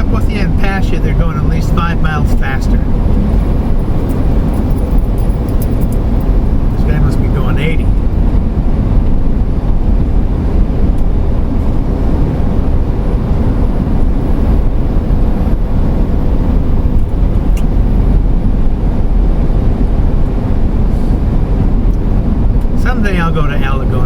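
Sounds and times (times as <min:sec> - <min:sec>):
vehicle road noise rumble: 0:00.0 - 0:24.0.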